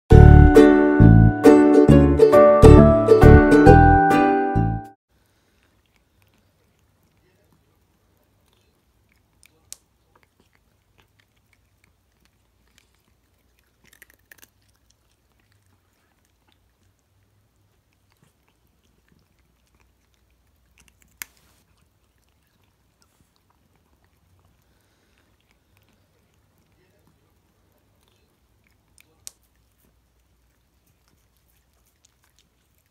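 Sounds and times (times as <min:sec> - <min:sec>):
cat crunching dry treat: 0:05.2 - 0:32.9.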